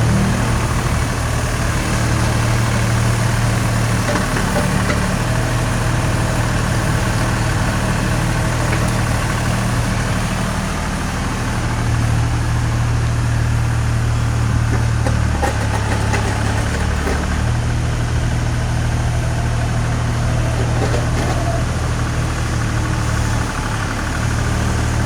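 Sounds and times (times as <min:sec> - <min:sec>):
mini excavator engine running: 0:00.0 - 0:25.0.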